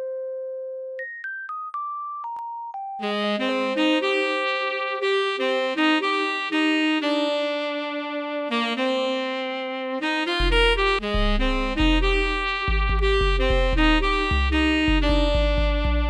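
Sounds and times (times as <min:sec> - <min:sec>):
held chords: 0:00.0 - 0:16.0
saxophone-like melody: 0:03.0 - 0:16.0.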